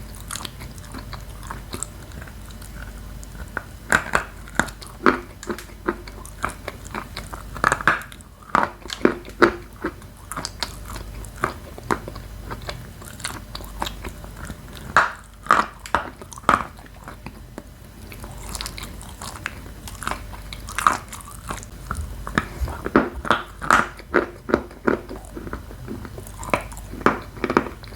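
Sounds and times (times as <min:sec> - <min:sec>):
crunching and chewing chalk: 0:00.0 - 0:27.9.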